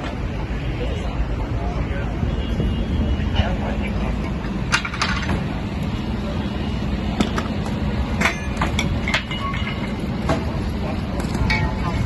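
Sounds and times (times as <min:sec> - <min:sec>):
city street noise: 0:00.0 - 0:12.0
heavy vehicle engine rumble: 0:00.0 - 0:12.0.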